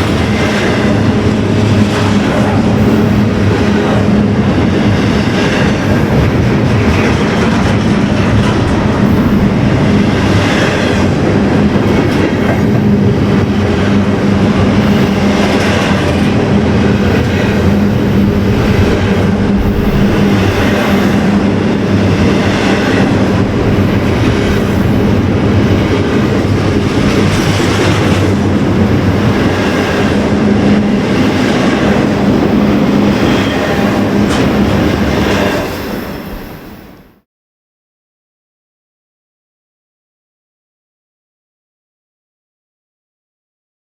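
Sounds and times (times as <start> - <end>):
train wheels clicking over rail joints: 0.0 - 36.8
train low drone: 0.0 - 37.2.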